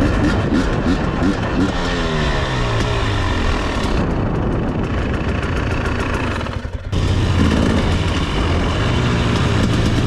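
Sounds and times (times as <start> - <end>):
two-stroke dirt bike engine: 0.0 - 10.0.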